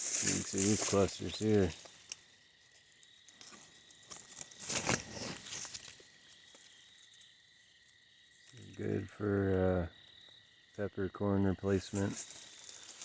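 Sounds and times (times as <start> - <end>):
leaves and twigs rustling: 0.0 - 10.9, 11.6 - 13.0
crickets trilling: 0.0 - 13.0.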